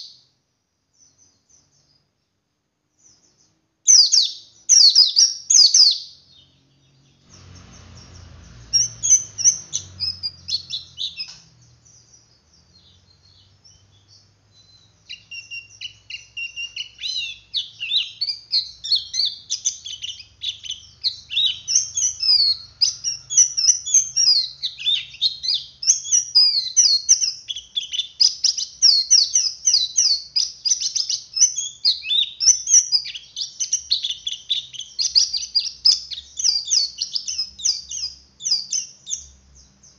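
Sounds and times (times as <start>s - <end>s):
bird singing high chattering twitter: 3.0s - 39.9s.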